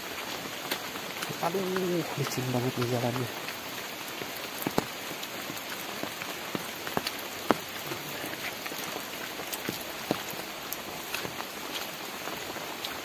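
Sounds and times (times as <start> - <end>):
large raindrops striking: 0.0 - 13.0
steady rain on vegetation: 0.0 - 13.0.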